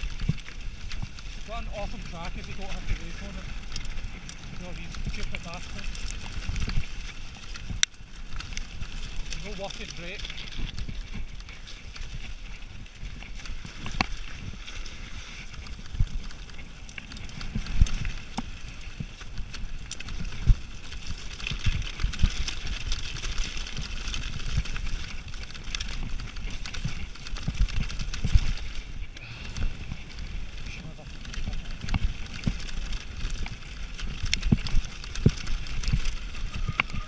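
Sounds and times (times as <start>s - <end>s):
bike tyres hissing on stones: 0.0s - 37.0s
wheels knocking on rocks: 0.0s - 37.0s.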